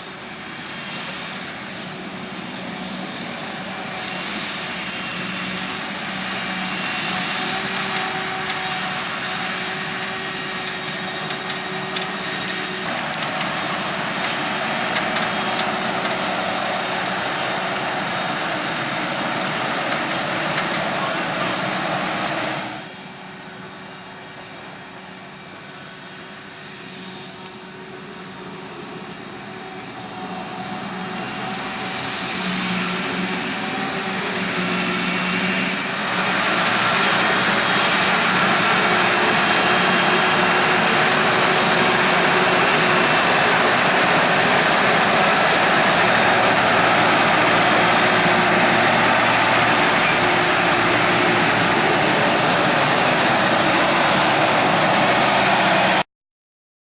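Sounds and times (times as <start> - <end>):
diesel engine hum: 0.0 - 56.1.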